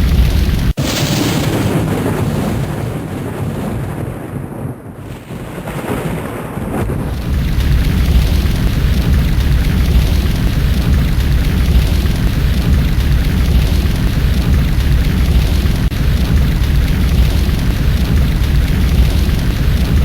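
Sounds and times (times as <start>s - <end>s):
deep thunder-like rumbling: 0.0s - 20.0s.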